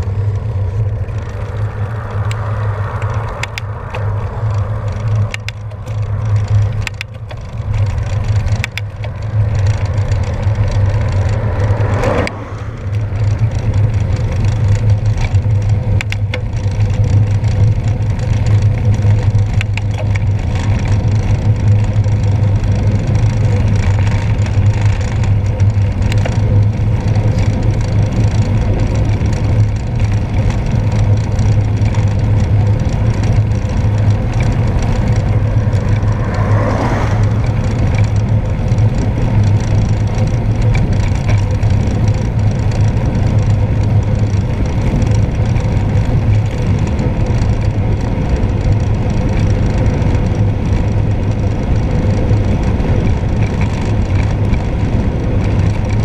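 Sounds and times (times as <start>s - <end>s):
bicycle clicks and rattles: 0.0s - 56.0s
tyre and road noise: 0.0s - 56.0s.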